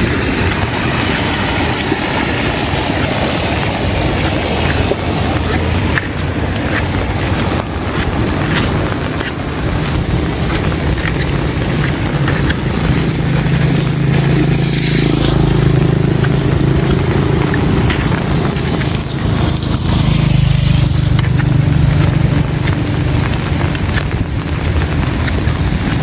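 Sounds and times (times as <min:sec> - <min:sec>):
heavy rain pouring: 0:00.0 - 0:26.0
wind buffeting microphone: 0:00.0 - 0:26.0.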